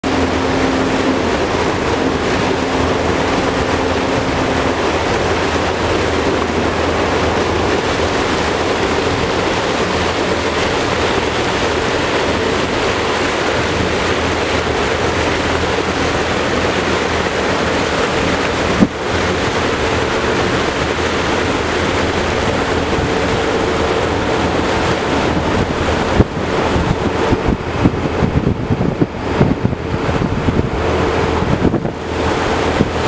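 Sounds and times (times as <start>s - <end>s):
boat engine running: 0.0s - 33.0s
water rushing past hull: 0.0s - 33.0s
wind on microphone: 0.0s - 33.0s.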